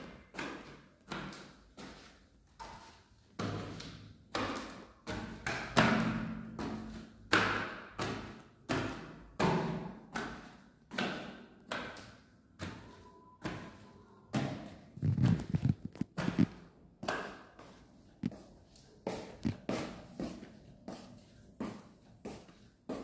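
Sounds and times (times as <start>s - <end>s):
footsteps on tiled floor: 0.0s - 23.0s.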